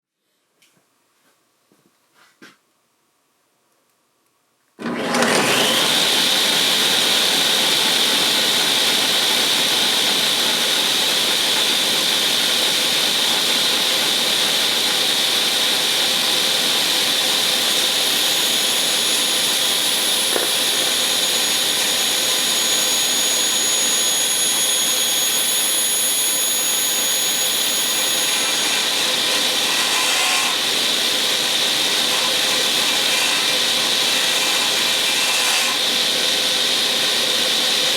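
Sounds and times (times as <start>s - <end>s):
table saw whining: 4.8s - 37.9s.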